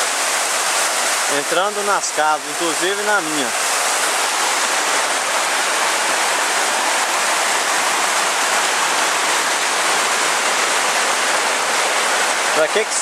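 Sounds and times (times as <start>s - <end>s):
water rushing down a street: 0.0s - 13.0s.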